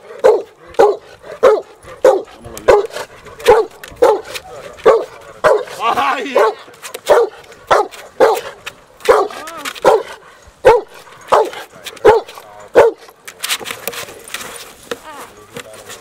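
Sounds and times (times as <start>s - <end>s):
dog barking loudly: 0.0s - 13.1s.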